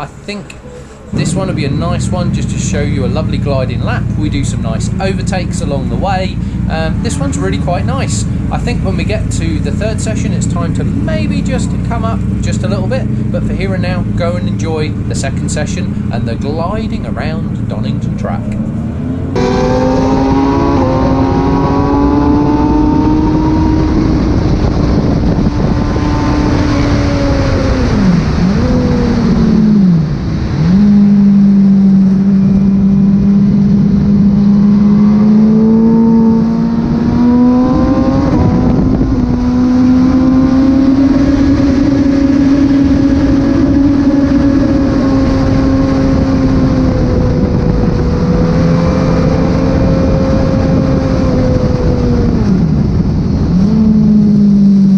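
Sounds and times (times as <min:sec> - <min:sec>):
rushing wind: 0:00.0 - 0:54.9
motorcycle engine revving: 0:00.6 - 0:54.9.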